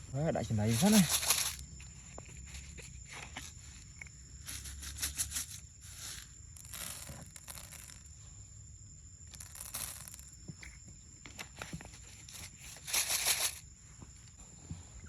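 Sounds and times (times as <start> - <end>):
soft rustling and scraping: 0.4 - 8.3, 9.6 - 15.0.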